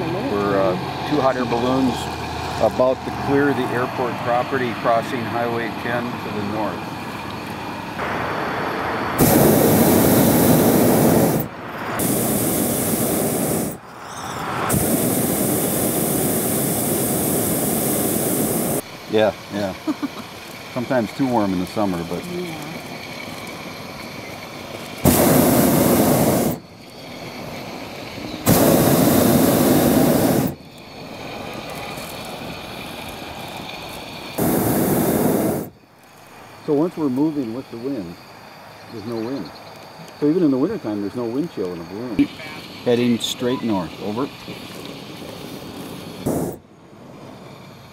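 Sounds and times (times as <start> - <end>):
propane burner hissing: 0.0 - 47.9.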